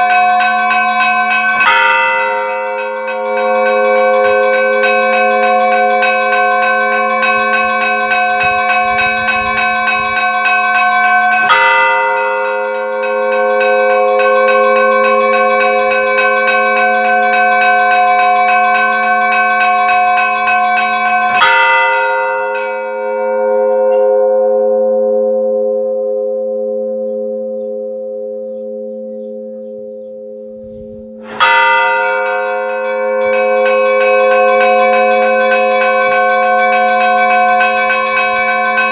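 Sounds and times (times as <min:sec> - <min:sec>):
large bell tolling: 0:00.0 - 0:24.3, 0:26.9 - 0:38.9.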